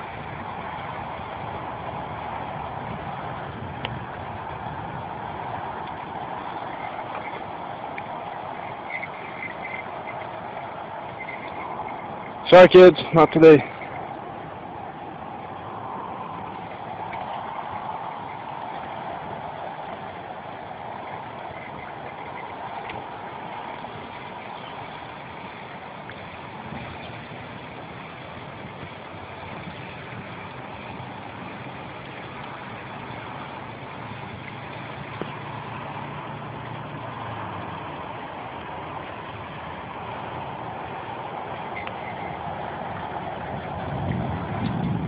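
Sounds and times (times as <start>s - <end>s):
floodwater rushing: 0.0s - 45.0s
low hum: 0.0s - 45.0s.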